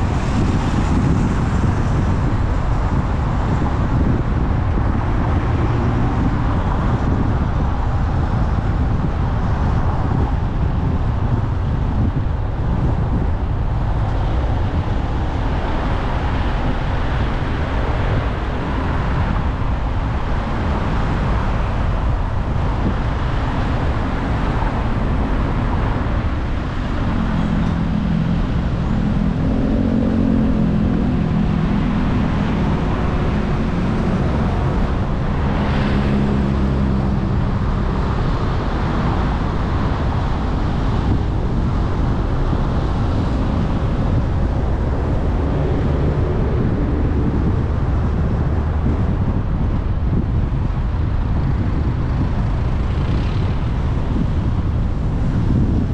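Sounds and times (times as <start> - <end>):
car driving in traffic: 0.0 - 55.9
low engine drone: 0.0 - 55.9.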